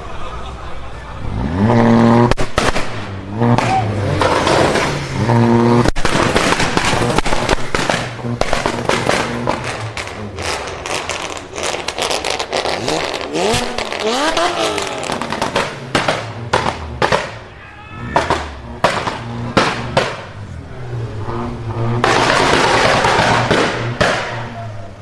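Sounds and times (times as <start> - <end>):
car engine revving: 1.0 - 25.0
exhaust pops and bangs: 1.7 - 20.5, 21.3 - 24.7.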